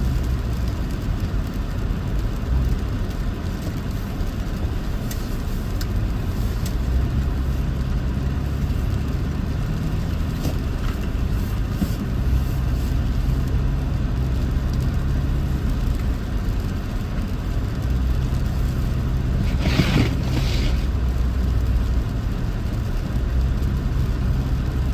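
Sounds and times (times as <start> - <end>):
vehicle driving through snow: 0.0 - 24.9.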